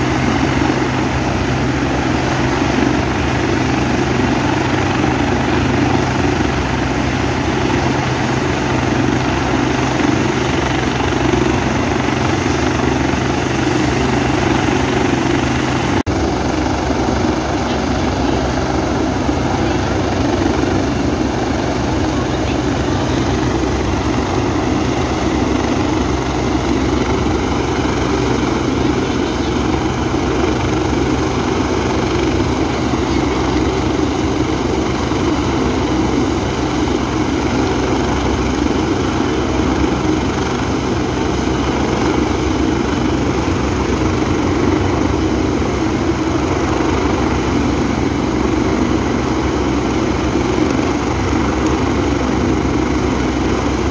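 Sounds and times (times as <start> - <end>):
helicopter turbine whine and rotors: 0.0 - 53.9.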